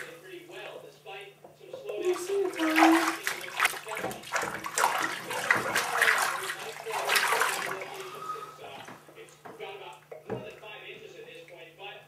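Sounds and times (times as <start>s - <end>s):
bathwater splashing: 0.0s - 0.2s, 1.8s - 11.7s.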